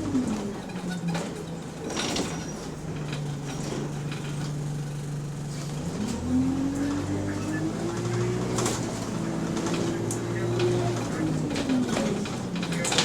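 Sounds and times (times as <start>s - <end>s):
bus engine with exhaust leak: 0.0s - 13.0s.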